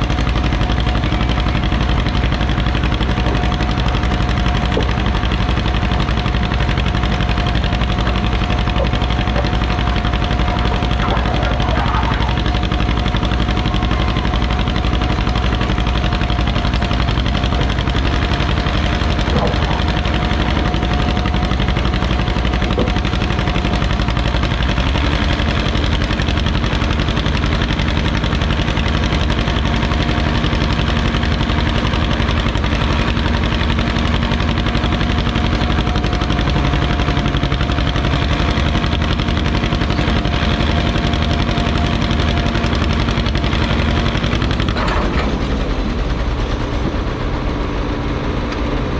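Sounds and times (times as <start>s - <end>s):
tractor engines running: 0.0s - 48.9s.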